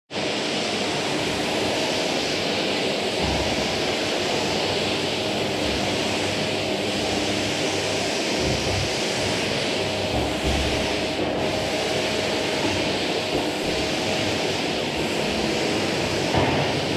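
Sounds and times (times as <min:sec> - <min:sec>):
vacuum cleaner running: 0:00.1 - 0:16.9.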